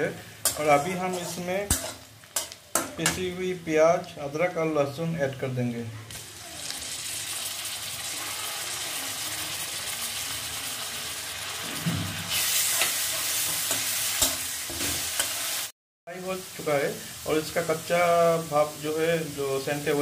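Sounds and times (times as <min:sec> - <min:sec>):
food sizzling in hot oil: 0:00.0 - 0:03.5, 0:06.1 - 0:20.0.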